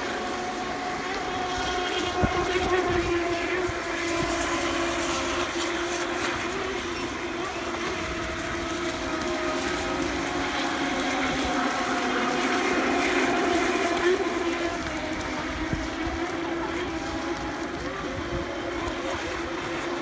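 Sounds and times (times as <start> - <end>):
boat hulls hissing through water: 0.0 - 20.0
electric motors whining: 0.0 - 20.0.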